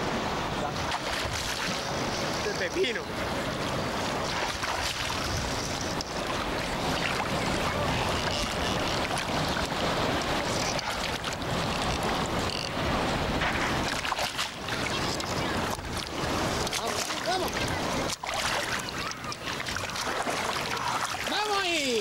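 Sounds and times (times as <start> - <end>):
water lapping in shallows: 0.0 - 22.0
wind on microphone: 3.1 - 21.3.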